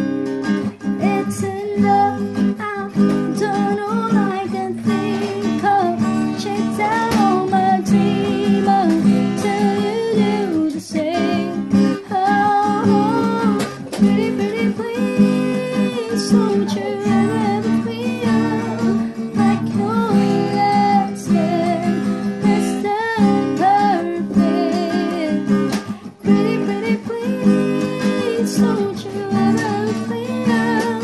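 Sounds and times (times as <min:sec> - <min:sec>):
acoustic guitar: 0:00.0 - 0:31.0
woman singing: 0:00.0 - 0:31.0.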